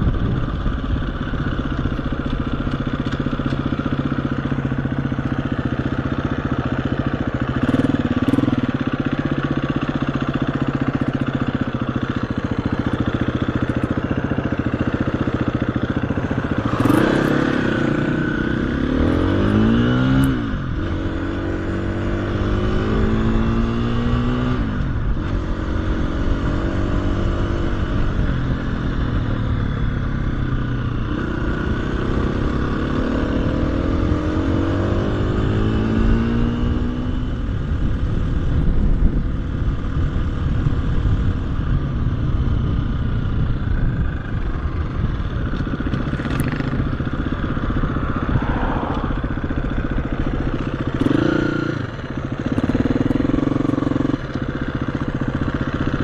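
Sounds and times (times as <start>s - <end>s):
trail bike engine running: 0.0s - 56.0s.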